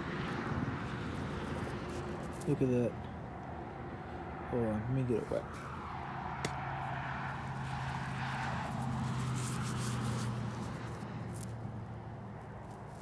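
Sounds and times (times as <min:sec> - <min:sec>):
highway traffic hum: 0:00.0 - 0:13.0.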